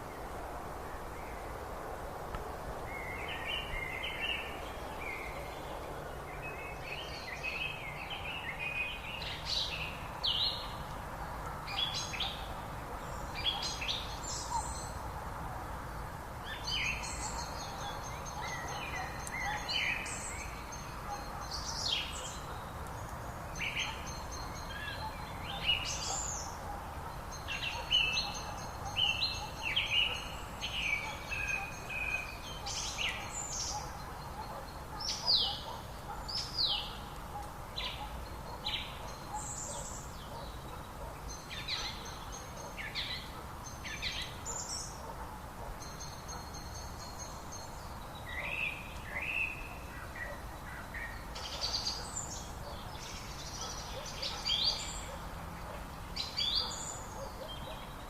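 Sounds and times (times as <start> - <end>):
songbirds singing and calling: 0.0 - 58.0
steady background hiss: 0.0 - 58.0.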